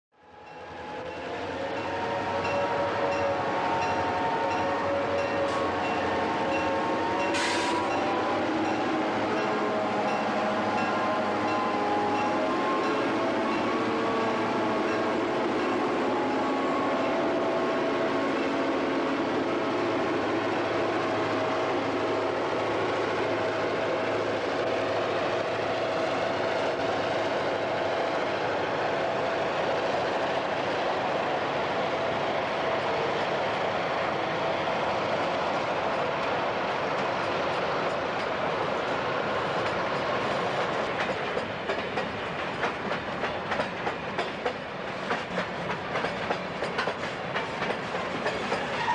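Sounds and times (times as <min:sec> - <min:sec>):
model locomotive droning: 0:00.2 - 0:41.0
rolling rumble of train cars: 0:00.2 - 0:48.9.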